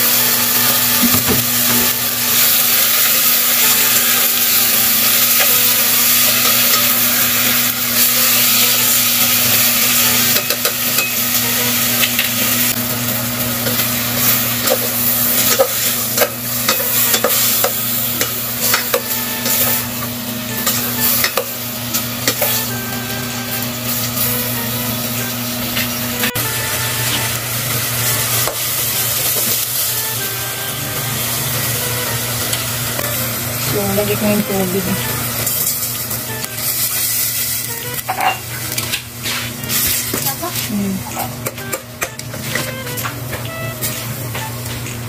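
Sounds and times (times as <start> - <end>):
meat sizzling in a pot: 0.0 - 45.0.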